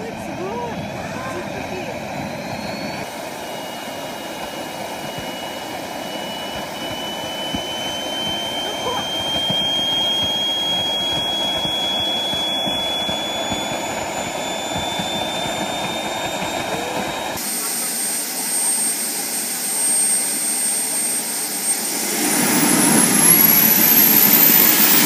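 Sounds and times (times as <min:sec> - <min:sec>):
gas turbine engine whine: 0:00.0 - 0:25.0.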